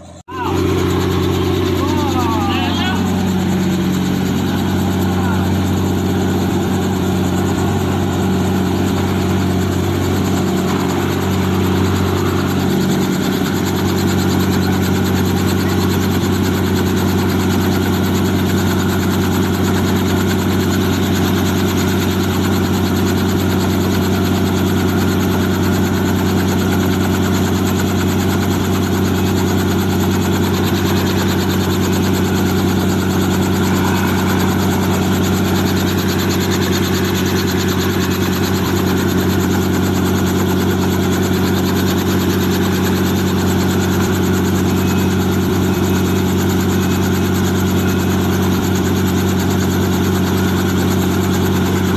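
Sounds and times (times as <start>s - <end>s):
helicopter engine and rotor hum: 0.0s - 51.9s.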